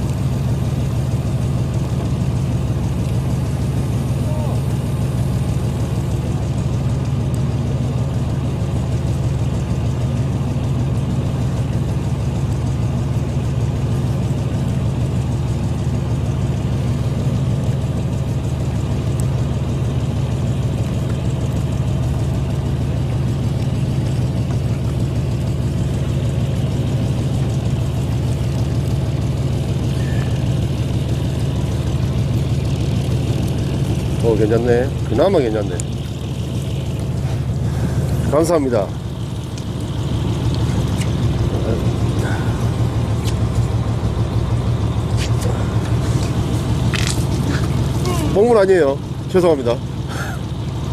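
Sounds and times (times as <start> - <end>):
boat engine idling: 0.0 - 50.9.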